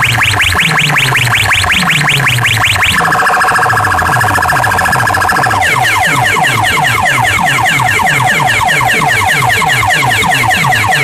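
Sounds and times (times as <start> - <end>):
electronic siren from loudspeakers: 0.0 - 11.0.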